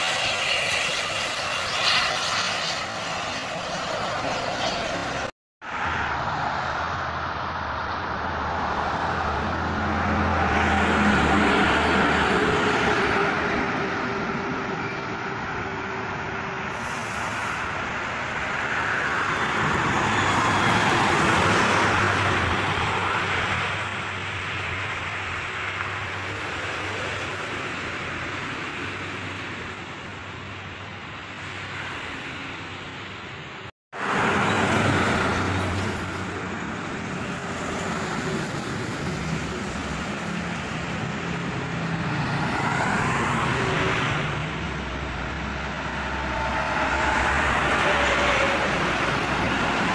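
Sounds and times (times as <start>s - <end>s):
highway traffic passing: 0.0s - 49.9s.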